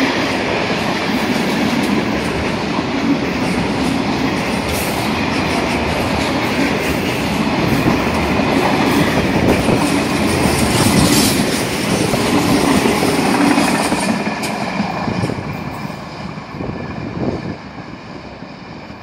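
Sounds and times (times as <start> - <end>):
train wheels clattering over rails: 0.0 - 16.3.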